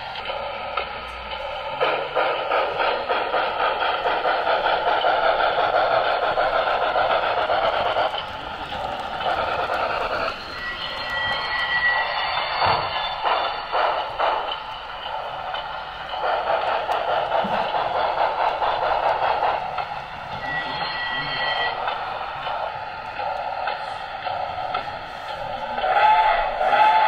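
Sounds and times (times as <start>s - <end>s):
model train running sound: 0.0s - 27.0s.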